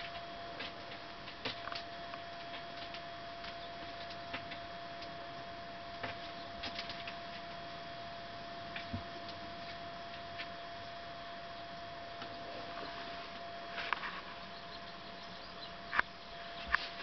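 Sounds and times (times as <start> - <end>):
thin constant whine: 0.0 - 17.0.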